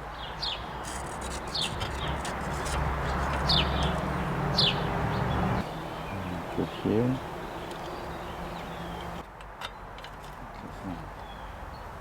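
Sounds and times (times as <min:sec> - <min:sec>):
bird chirping: 0:00.1 - 0:09.9, 0:11.2 - 0:12.0.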